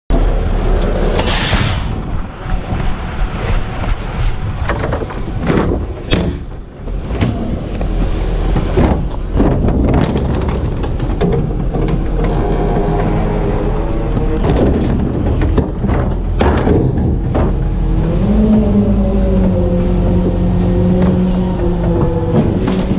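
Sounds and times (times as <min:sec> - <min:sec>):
garbage truck diesel engine: 0:00.1 - 0:22.9
trash carts knocking and rolling: 0:04.5 - 0:22.9.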